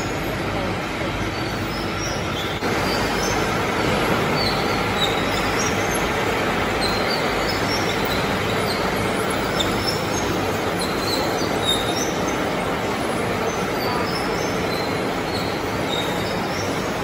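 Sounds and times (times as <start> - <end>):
conveyor machinery rumble: 0.0 - 17.0.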